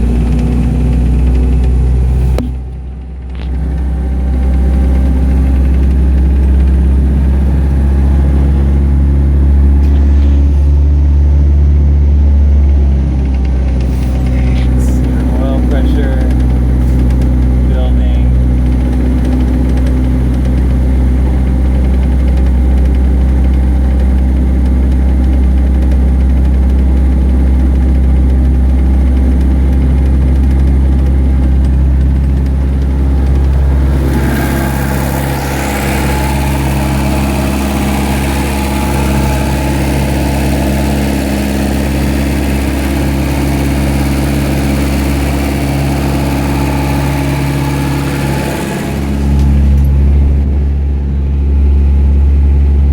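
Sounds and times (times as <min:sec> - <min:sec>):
boat engine idling: 0:00.0 - 0:52.9.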